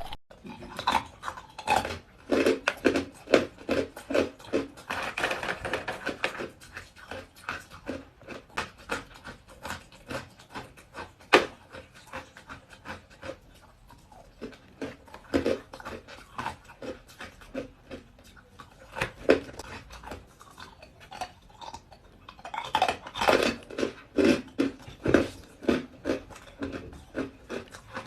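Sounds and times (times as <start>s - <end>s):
chewing crunchy ice: 0.0s - 28.0s.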